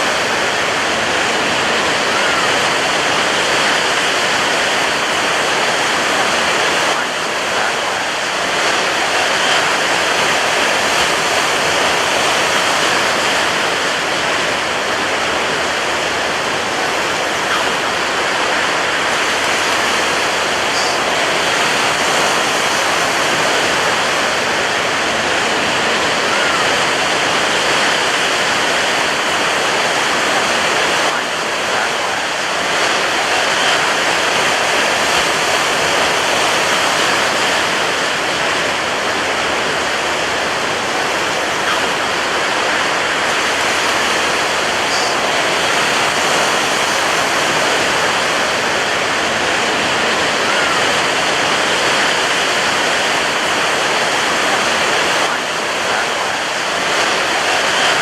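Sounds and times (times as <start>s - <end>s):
ocean surf breaking on a beach: 0.0s - 58.0s.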